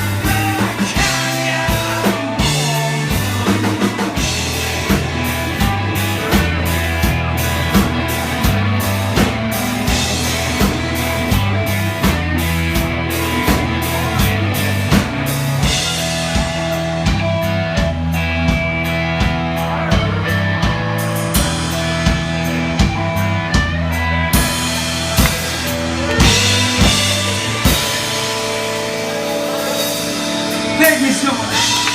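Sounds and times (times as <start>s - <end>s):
bass notes: 0.0s - 31.9s
drum kit beat: 0.0s - 31.9s.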